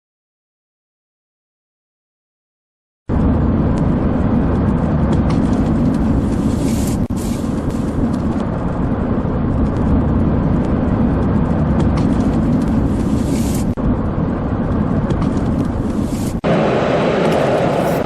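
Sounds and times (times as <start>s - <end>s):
car road and engine noise: 3.1s - 18.0s.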